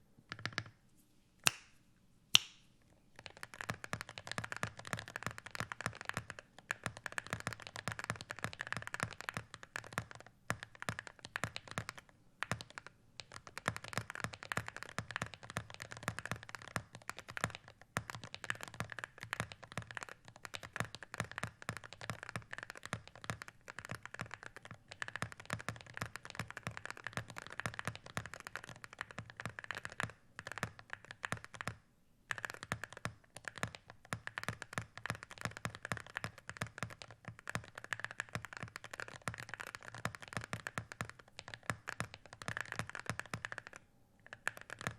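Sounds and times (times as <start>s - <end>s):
fast keyboard typing: 0.3s - 0.7s, 3.2s - 44.9s.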